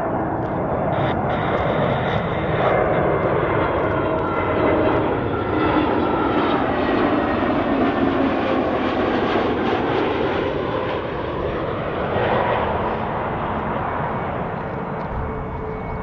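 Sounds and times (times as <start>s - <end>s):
jet airliner engines: 0.0s - 16.0s.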